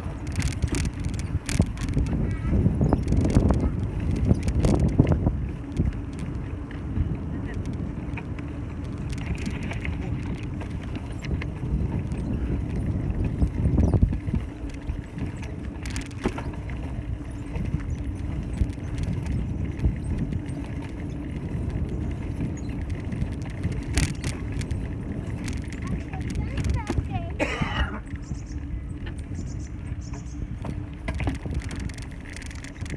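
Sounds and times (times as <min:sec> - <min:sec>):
bicycle tyres on road: 0:00.0 - 0:32.9
light clicks and rattles: 0:00.0 - 0:32.9
wind on microphone: 0:00.0 - 0:32.9.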